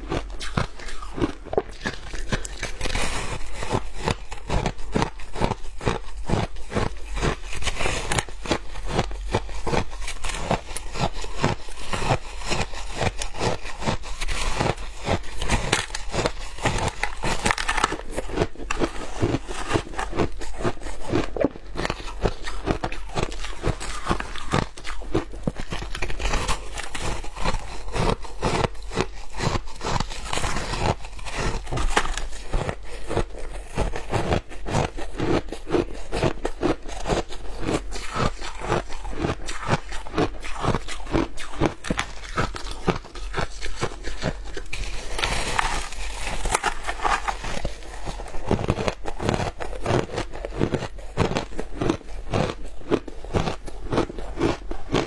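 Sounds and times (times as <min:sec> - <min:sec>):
shaved ice crunching: 0:00.0 - 0:34.5, 0:36.5 - 0:55.0.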